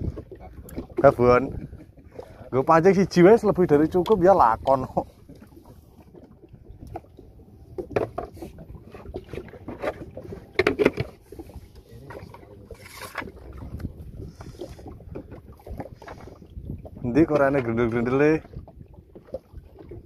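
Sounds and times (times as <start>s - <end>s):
water lapping against boat hull: 0.0s - 20.0s
wind rumble on microphone: 0.0s - 20.0s.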